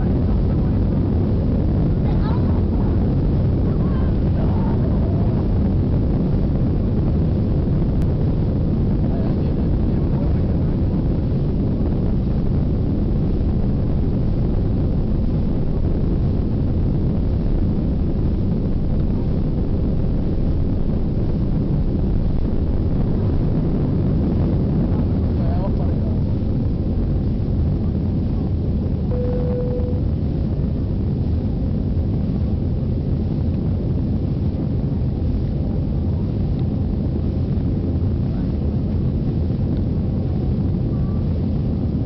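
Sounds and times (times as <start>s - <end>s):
jet engines at takeoff thrust: 0.0s - 42.0s
wheels rumbling on runway: 0.0s - 42.0s.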